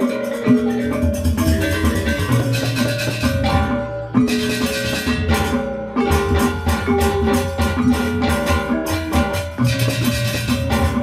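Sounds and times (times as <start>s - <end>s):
hand drums: 0.0s - 11.0s
metallophones struck fast: 0.0s - 11.0s.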